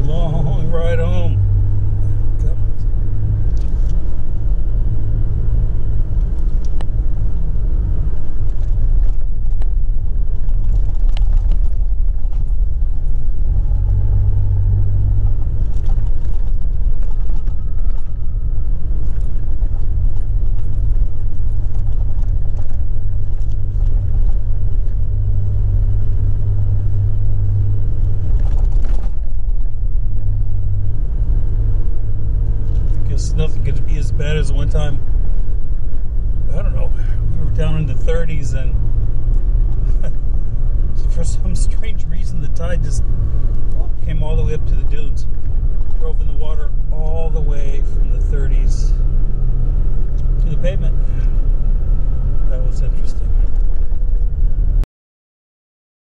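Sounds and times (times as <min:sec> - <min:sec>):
vehicle driving on sand: 0:00.0 - 0:54.8.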